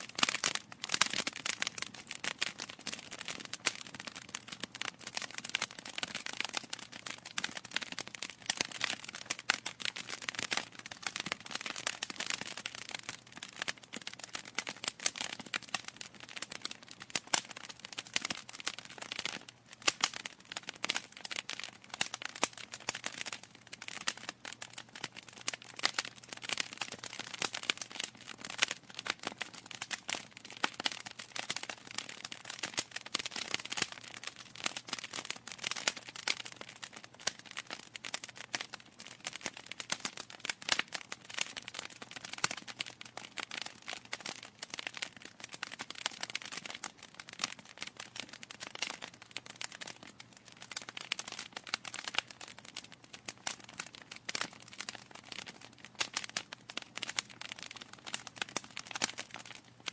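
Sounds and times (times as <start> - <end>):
logs burning and crackling: 0.1 - 59.9.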